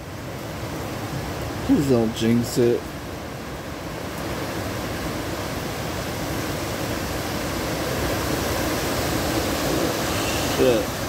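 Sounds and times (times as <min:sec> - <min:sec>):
hurricane wind: 0:00.0 - 0:11.0
rain: 0:00.0 - 0:11.0.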